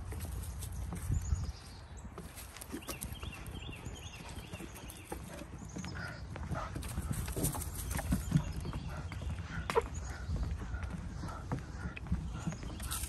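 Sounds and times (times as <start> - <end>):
footsteps on wooden boardwalk: 0.0 - 13.0.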